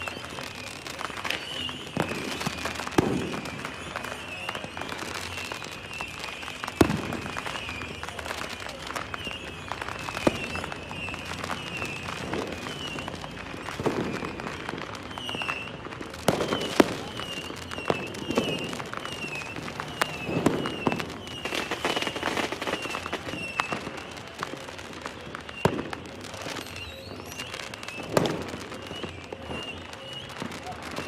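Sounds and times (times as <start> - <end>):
fireworks bangs and pops: 0.0 - 31.0.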